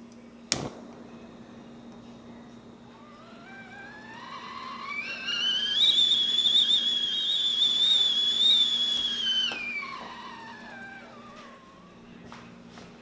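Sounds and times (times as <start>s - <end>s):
high whistling tone: 0.6s - 12.0s.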